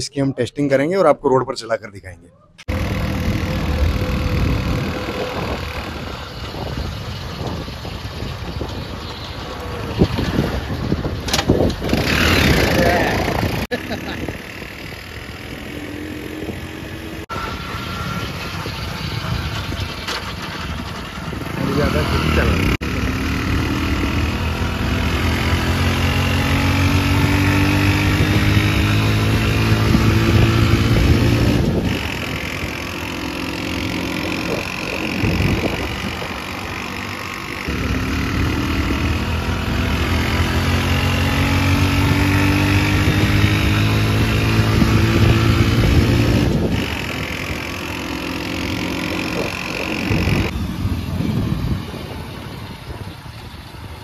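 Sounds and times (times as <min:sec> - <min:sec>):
motorcycle engine running: 0:02.7 - 0:54.0.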